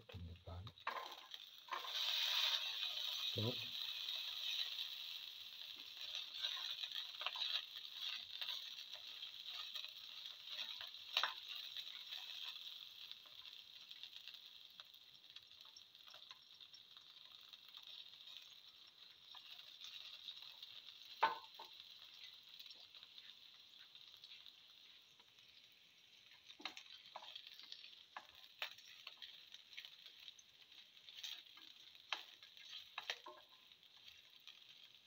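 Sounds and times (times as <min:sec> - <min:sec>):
oil sizzling in a frying pan: 0:00.0 - 0:35.0.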